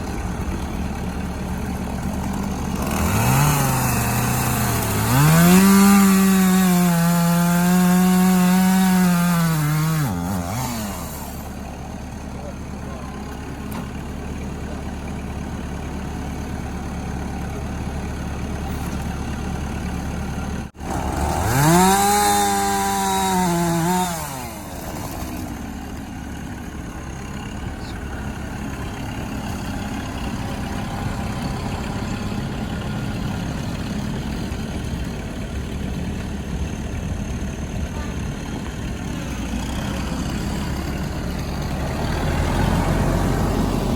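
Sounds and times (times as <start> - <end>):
chainsaw revving: 0.0 - 43.9
engine idling: 0.0 - 43.9.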